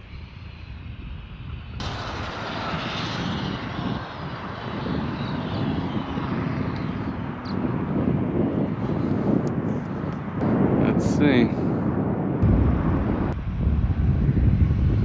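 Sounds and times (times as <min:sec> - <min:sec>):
tyre and wind rush: 0:00.0 - 0:15.0.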